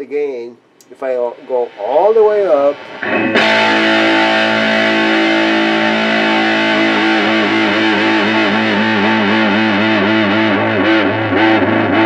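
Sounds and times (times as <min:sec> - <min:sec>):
distorted electric guitar note: 0:00.9 - 0:12.0.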